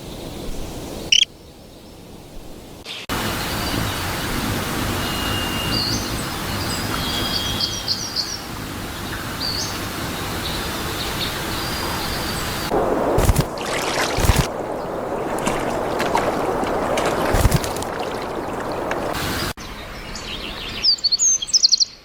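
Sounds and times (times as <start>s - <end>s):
background hiss: 0.0s - 19.6s
birds calling: 2.9s - 21.8s.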